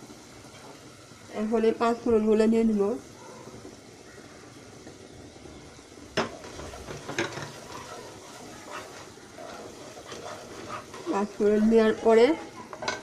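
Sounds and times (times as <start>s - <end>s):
masala sizzling in a pan: 0.0s - 13.0s.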